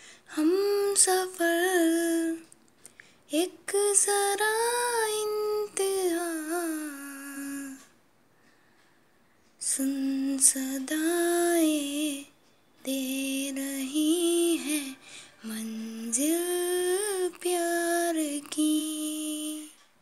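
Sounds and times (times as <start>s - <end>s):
woman singing unaccompanied: 0.0s - 2.6s, 3.3s - 8.0s, 9.6s - 19.9s.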